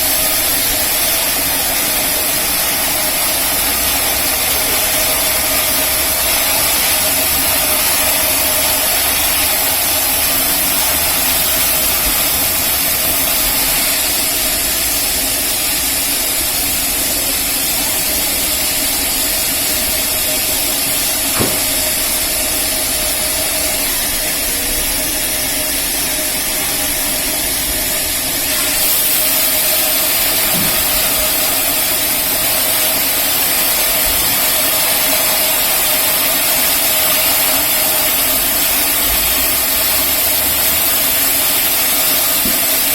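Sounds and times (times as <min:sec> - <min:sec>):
band saw machine hum: 0:00.0 - 0:42.9
saw hiss: 0:00.0 - 0:42.9.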